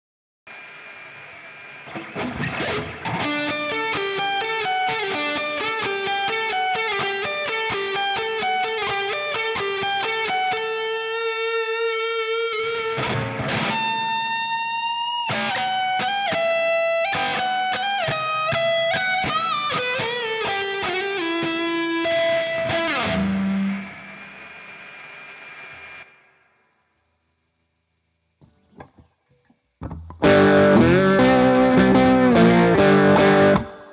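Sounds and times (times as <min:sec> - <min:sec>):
electric guitar lead lines: 0:00.5 - 0:26.6, 0:29.8 - 0:33.9.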